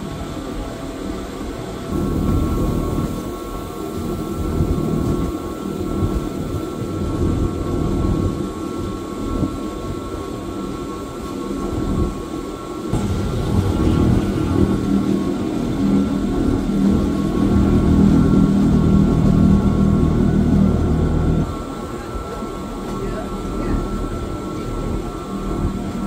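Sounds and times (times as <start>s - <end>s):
faint steady whine: 0.0s - 26.0s
train wheels rumbling: 0.0s - 26.0s.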